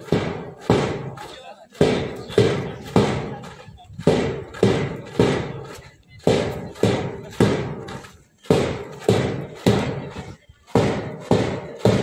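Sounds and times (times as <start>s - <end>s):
marching bass drum beating: 0.0s - 12.0s.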